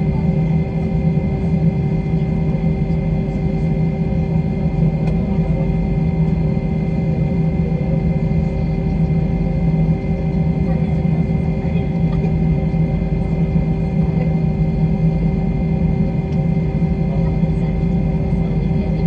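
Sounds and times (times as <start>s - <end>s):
airplane cabin noise: 0.0s - 19.0s.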